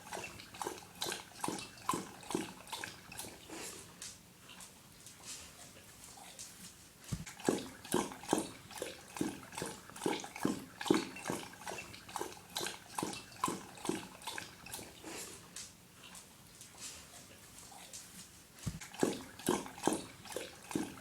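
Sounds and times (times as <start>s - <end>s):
dog lapping water: 0.0s - 6.0s, 7.2s - 18.0s, 18.6s - 21.0s.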